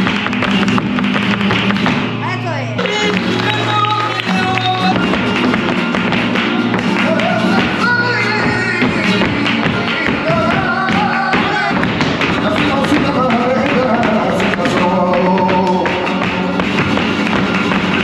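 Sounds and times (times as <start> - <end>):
sharp percussive taps: 0.0 - 2.2, 2.8 - 18.0
person singing: 2.8 - 18.0.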